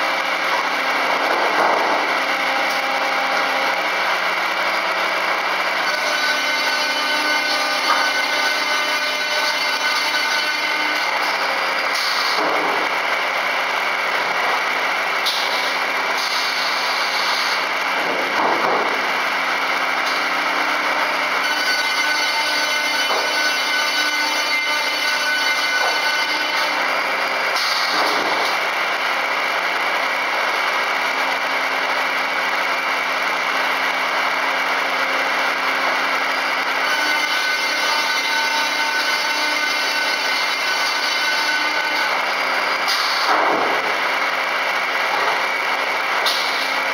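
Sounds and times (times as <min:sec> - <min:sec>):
circular saw running: 0:00.0 - 0:46.9.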